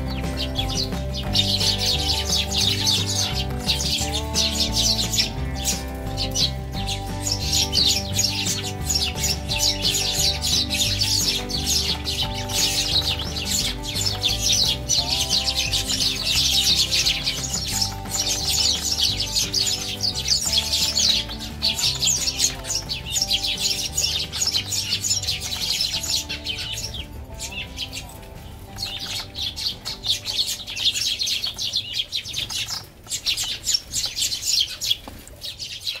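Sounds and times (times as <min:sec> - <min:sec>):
soft background music: 0:00.0 - 0:34.6
sparrows chirping: 0:00.0 - 0:36.0.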